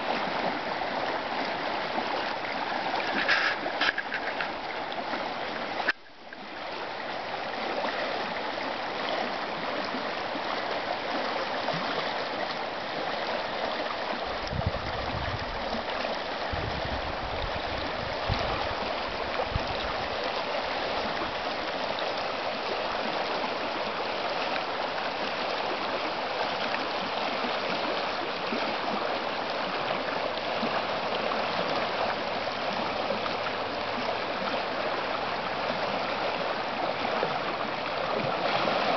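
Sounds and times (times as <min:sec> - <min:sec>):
water rushing and gurgling: 0:00.0 - 0:38.9.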